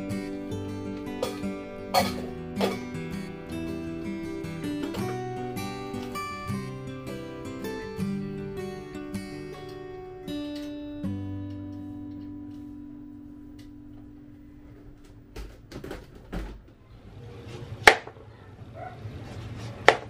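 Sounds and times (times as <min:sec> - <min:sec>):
acoustic guitar music: 0:00.0 - 0:16.7.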